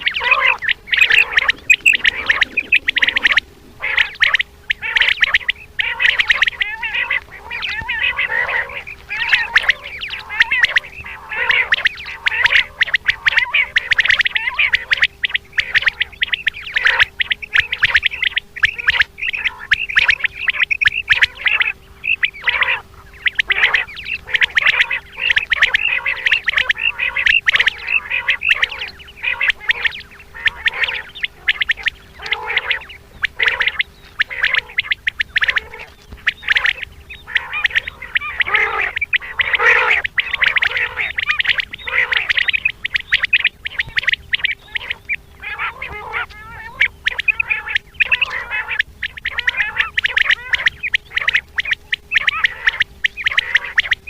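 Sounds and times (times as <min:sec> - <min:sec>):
faint steady hum: 0:00.0 - 0:54.0
quail calling: 0:00.0 - 0:54.0.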